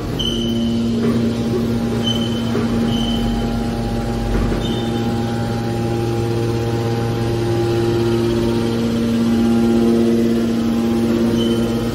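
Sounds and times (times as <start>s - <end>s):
hydraulic pump motor humming: 0.0s - 11.9s.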